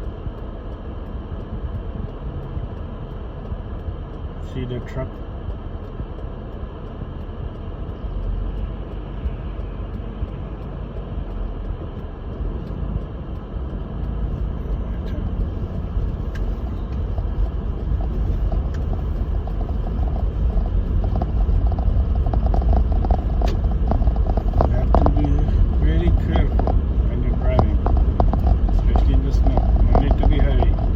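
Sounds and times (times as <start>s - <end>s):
engine and tyre rumble: 0.0s - 30.9s
faint clicks: 0.0s - 30.9s.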